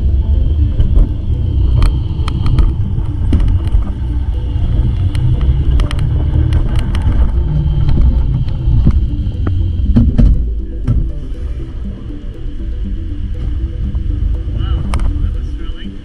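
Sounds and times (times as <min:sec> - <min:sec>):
steady high whine: 0:00.0 - 0:16.0
wind rumble on microphone: 0:00.0 - 0:16.0.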